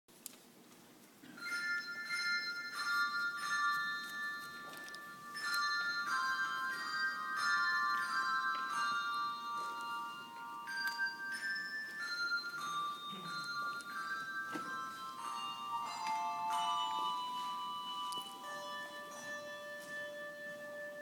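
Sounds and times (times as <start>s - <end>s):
handbell choir playing chords: 1.4s - 21.0s.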